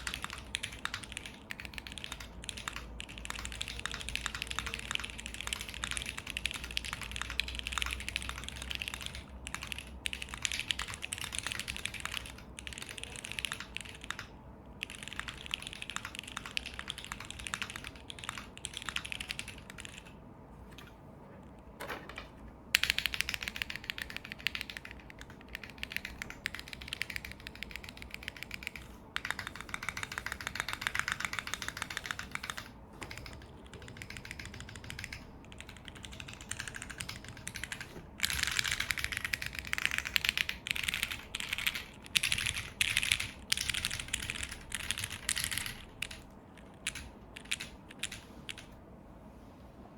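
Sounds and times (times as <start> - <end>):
fast typing on mechanical keyboard: 0.0 - 20.2, 22.1 - 48.8.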